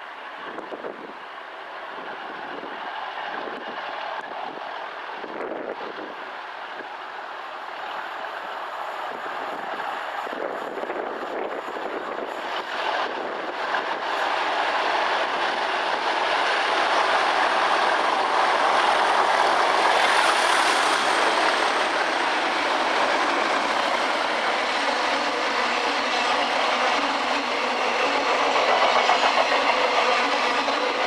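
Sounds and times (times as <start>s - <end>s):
diesel locomotives passing: 0.0s - 31.0s.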